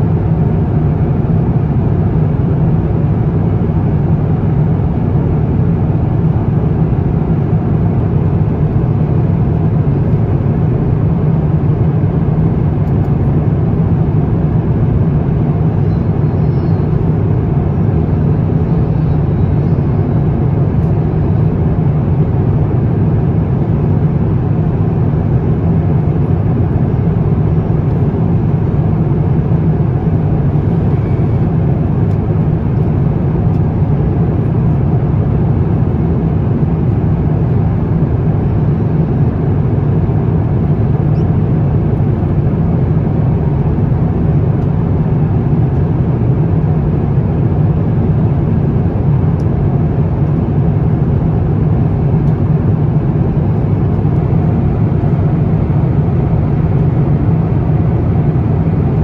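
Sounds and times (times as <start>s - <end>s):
airplane cabin low rumble: 0.0s - 59.0s.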